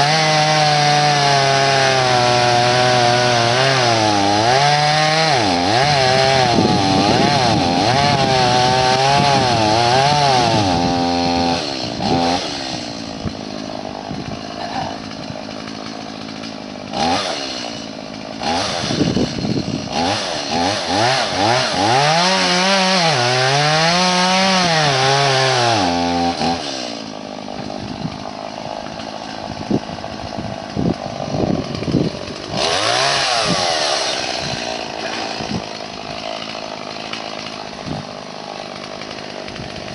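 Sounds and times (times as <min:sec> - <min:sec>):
chainsaw revving through cuts: 0:00.0 - 0:39.9.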